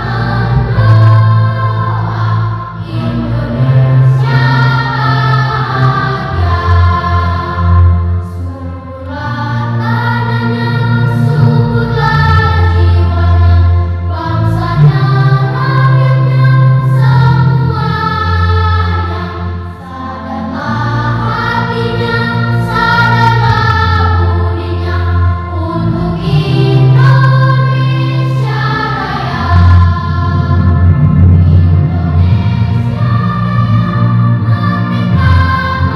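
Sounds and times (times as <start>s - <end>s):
children's choir singing: 0.0s - 35.9s
low held bass notes: 0.0s - 35.9s.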